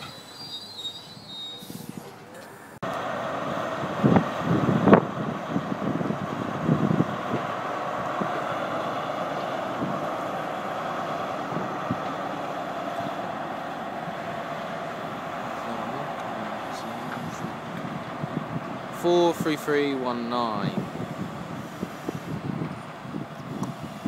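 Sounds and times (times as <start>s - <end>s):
train mechanical noise: 0.0s - 24.0s.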